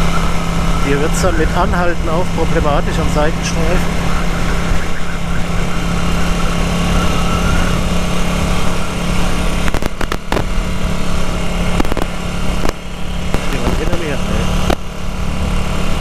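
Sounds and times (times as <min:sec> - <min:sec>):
motorcycle engine running: 0:00.0 - 0:16.0
wind rumble: 0:00.0 - 0:16.0.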